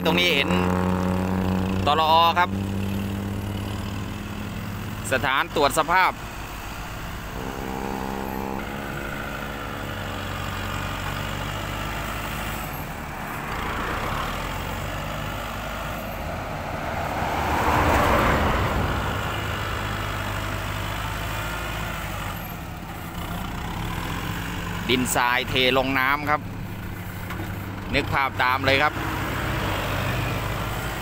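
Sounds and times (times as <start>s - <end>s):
tractor diesel engine running: 0.0s - 17.0s, 18.5s - 31.0s
road traffic passing: 0.0s - 31.0s.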